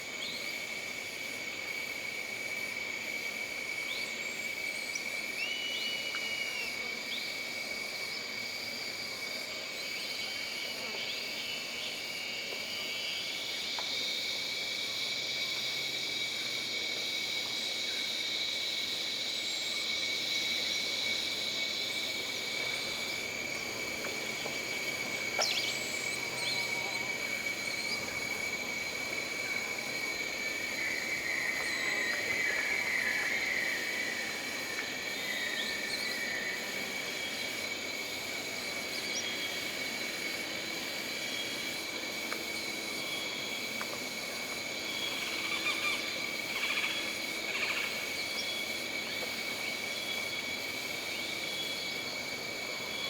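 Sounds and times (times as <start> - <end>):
high-pitched insect drone: 0.2 - 53.0.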